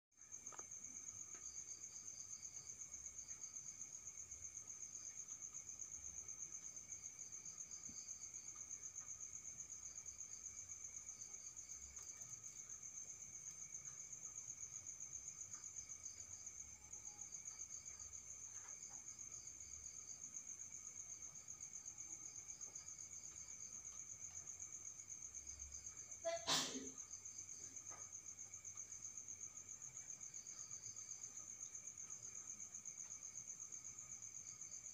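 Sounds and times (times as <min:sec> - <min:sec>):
crickets trilling: 0:00.2 - 0:34.9
soft insect chirps: 0:00.2 - 0:34.9.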